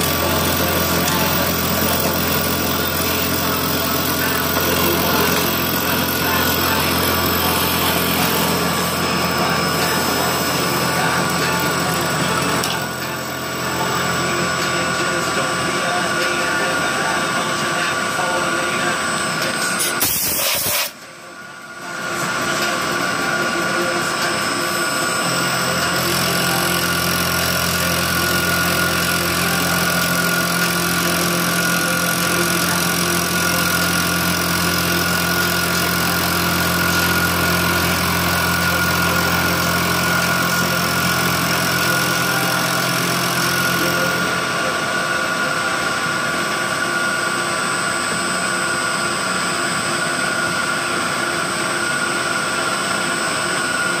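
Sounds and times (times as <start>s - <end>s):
milling machine whine: 0.0s - 54.0s.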